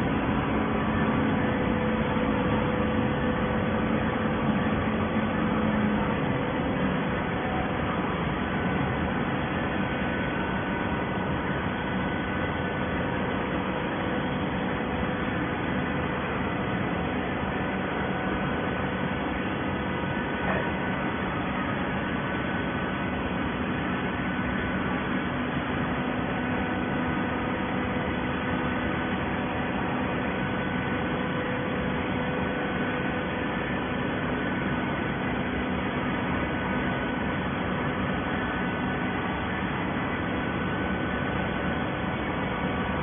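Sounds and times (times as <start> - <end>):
baler machine hum: 0.0 - 43.0.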